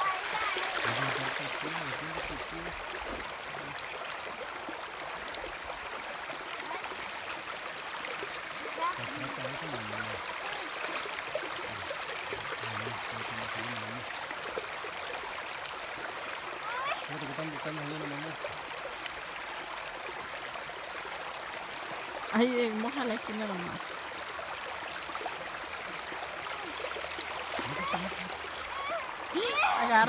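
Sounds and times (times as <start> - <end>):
water flowing over stones: 0.0 - 30.0.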